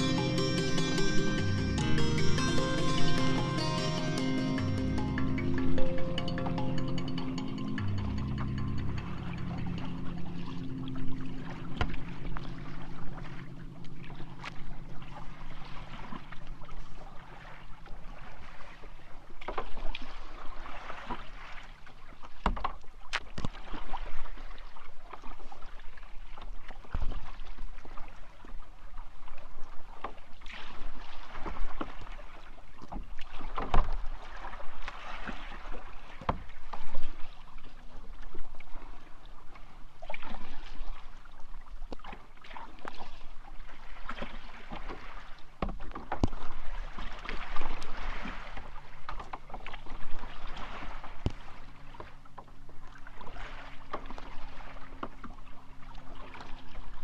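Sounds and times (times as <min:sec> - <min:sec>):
paddle strokes splashing water: 0:08.4 - 0:57.0.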